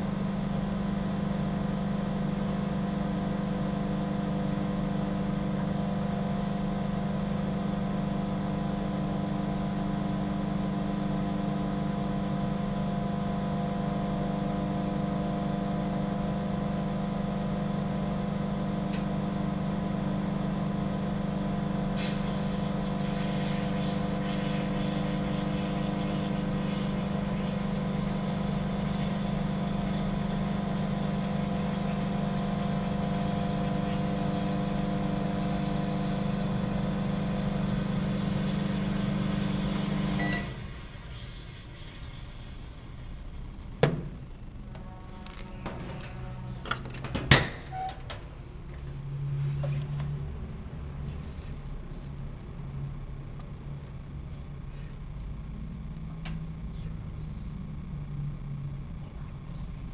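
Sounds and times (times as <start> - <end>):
microwave oven hum: 0.0 - 59.9.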